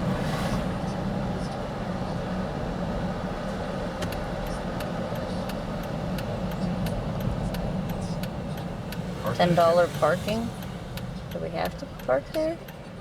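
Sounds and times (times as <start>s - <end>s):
car engine and road noise: 0.0s - 13.0s
turn signal ticking: 0.8s - 13.0s.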